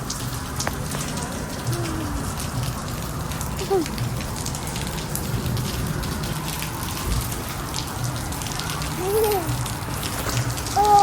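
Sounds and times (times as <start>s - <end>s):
raindrops hitting close by: 0.0s - 11.0s
steady rain falling: 0.0s - 11.0s.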